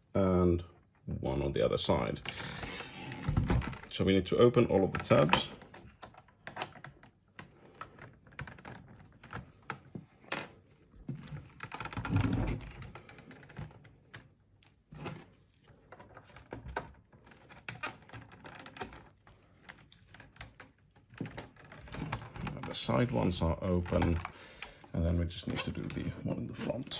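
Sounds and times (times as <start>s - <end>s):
plastic clicks and scrapes: 4.7s - 26.9s.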